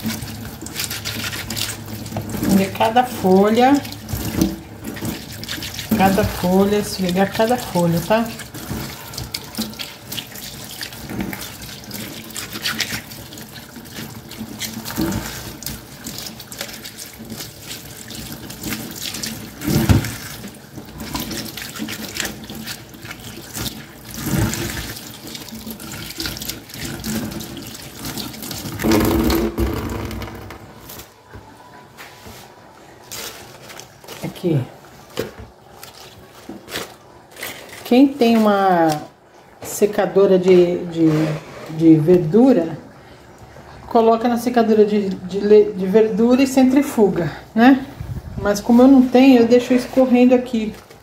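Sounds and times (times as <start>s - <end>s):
water splashes: 0.0s - 31.3s, 32.1s - 51.0s.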